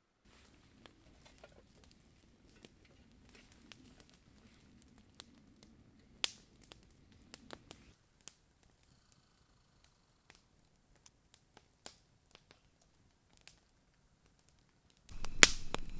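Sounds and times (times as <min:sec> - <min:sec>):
low steady hiss: 0:00.0 - 0:15.9
campfire crackling and popping: 0:00.3 - 0:08.9, 0:10.3 - 0:15.9.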